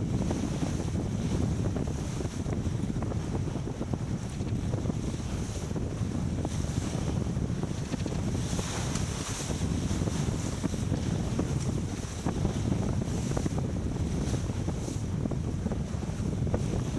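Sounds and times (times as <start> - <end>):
water rushing along hull: 0.0 - 16.9
wind buffeting microphone: 0.0 - 16.9.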